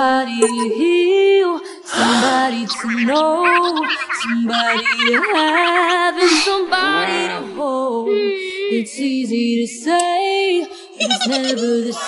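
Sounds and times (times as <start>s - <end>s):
pop song with high vocal: 0.0s - 12.0s.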